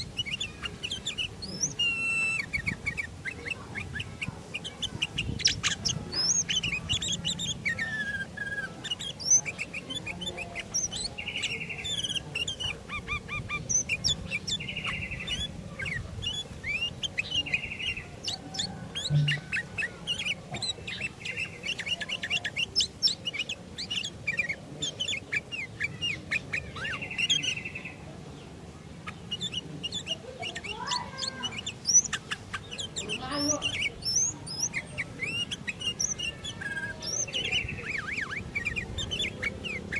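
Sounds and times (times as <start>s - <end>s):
bulbuls chirping and whistling: 0.0s - 39.9s.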